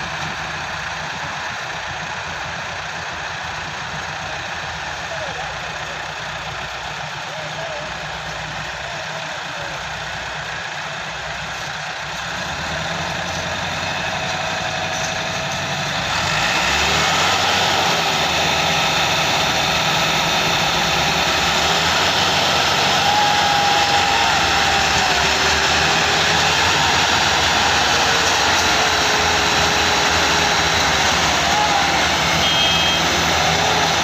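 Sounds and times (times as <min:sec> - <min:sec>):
tractor diesel engine working hard: 0:00.0 - 0:34.0.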